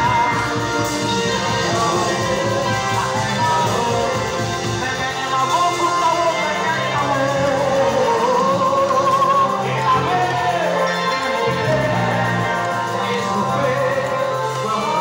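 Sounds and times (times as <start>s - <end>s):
band accompaniment with bass line: 0.0s - 15.0s
person singing through microphone: 0.0s - 15.0s.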